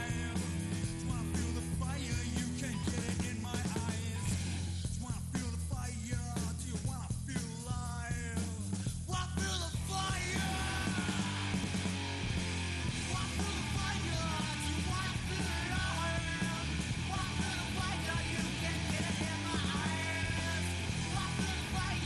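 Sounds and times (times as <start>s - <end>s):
person singing and shouting: 0.0s - 11.8s, 12.9s - 22.0s
rock band playing: 0.0s - 22.0s.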